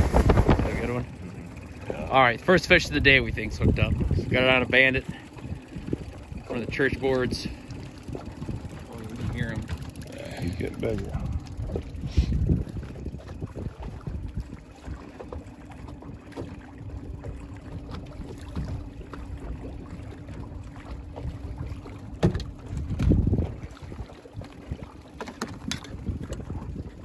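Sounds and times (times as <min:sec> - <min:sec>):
outboard motor humming: 0:00.0 - 0:27.0
wind buffeting microphone: 0:00.0 - 0:27.0.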